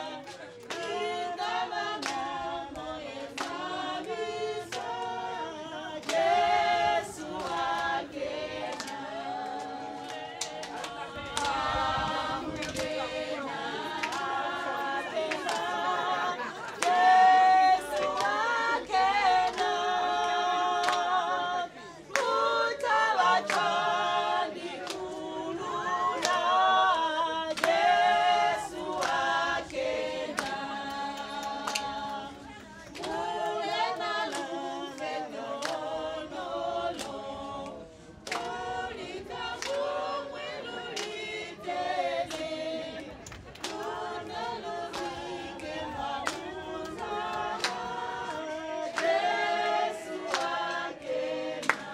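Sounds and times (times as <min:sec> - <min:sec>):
group singing unaccompanied: 0:00.0 - 0:51.9.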